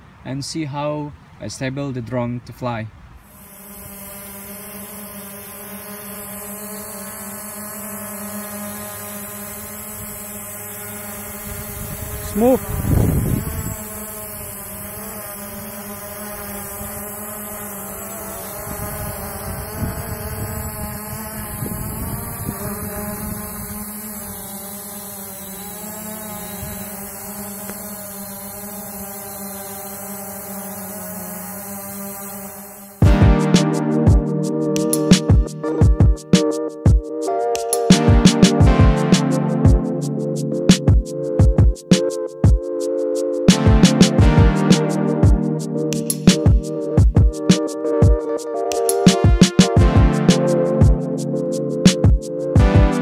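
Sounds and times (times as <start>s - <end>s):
drone motors and propellers humming: 3.3s - 53.0s.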